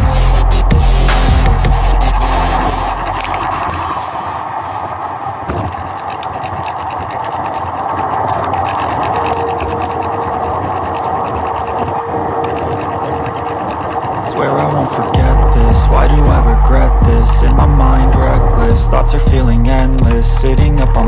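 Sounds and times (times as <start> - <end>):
bicycle rattling and ticking: 0.0 - 21.0
low sound: 0.0 - 21.0
wind and road rush: 0.0 - 21.0.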